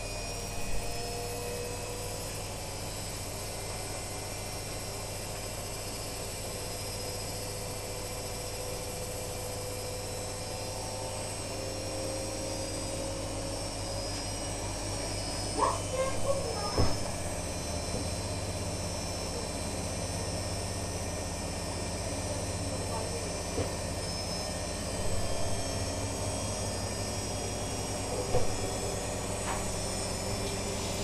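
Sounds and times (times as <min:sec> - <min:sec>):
washing machine hum: 0:00.0 - 0:31.0.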